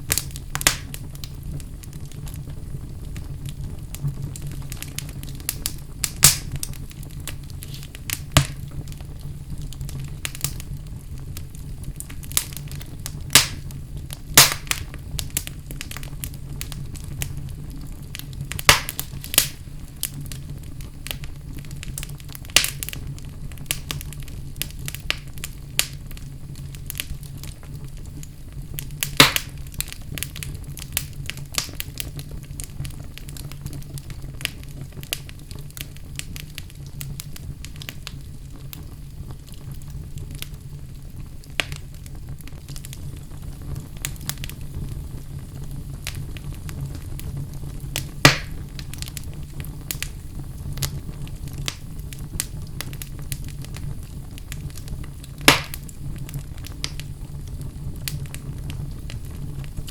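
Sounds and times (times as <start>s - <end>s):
fire crackling in a fireplace: 0.0s - 59.9s
fire popping: 0.0s - 59.9s.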